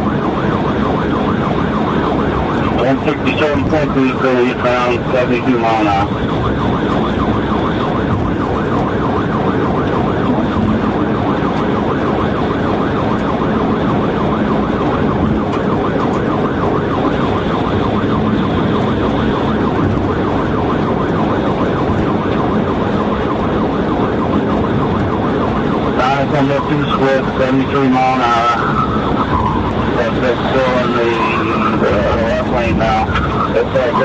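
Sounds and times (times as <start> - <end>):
car engine and road noise: 0.0 - 34.0
police siren yelping: 0.0 - 34.0.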